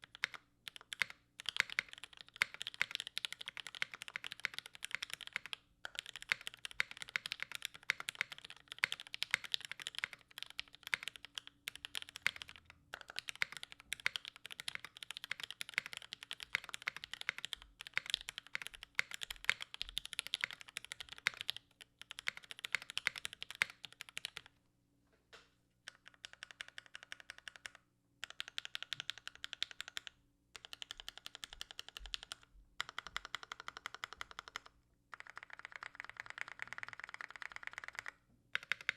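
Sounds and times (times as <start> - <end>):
mechanical keyboard typing: 0.0 - 24.5, 25.9 - 38.9.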